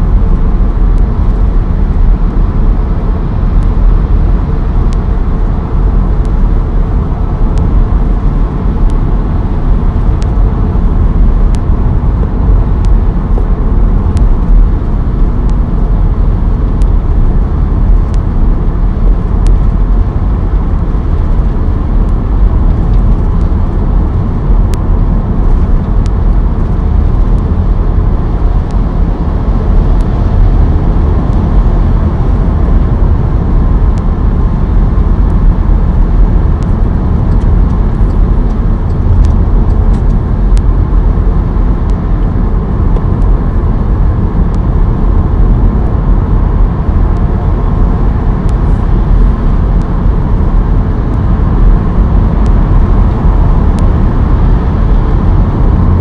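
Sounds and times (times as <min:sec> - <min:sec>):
car road rumble at speed: 0:00.0 - 0:56.0.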